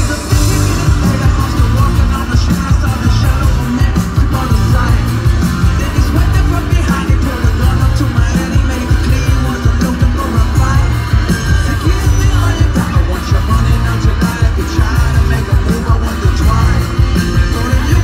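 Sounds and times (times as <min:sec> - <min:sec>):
live rock band playing: 0:00.0 - 0:18.0
man singing into microphone: 0:00.0 - 0:18.0.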